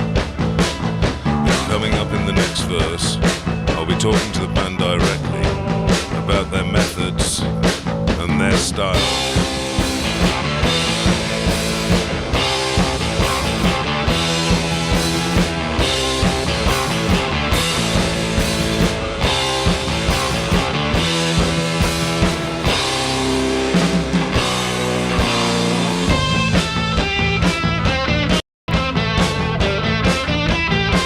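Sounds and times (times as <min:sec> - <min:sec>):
drum kit beat: 0:00.0 - 0:31.0
high clear guitar line: 0:00.0 - 0:31.0
rock band playing: 0:00.0 - 0:31.0.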